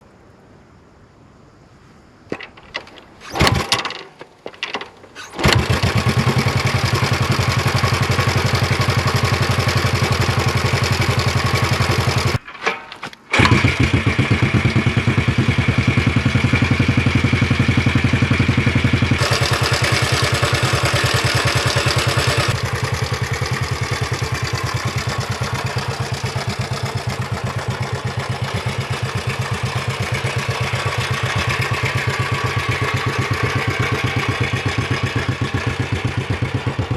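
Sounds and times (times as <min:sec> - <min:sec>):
motorcycle engine starting and idling: 0:02.3 - 0:36.9.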